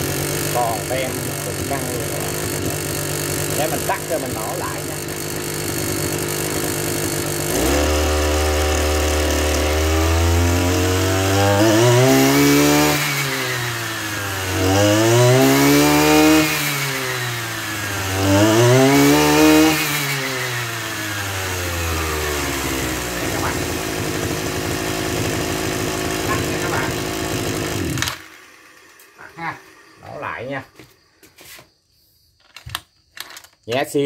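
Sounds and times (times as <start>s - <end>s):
brush cutter engine revving: 0.0s - 30.8s.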